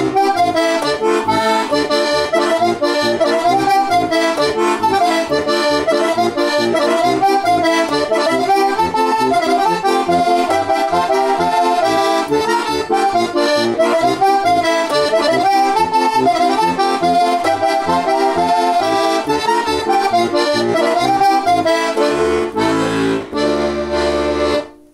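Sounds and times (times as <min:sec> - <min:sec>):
button accordion folk tune: 0:00.0 - 0:24.9.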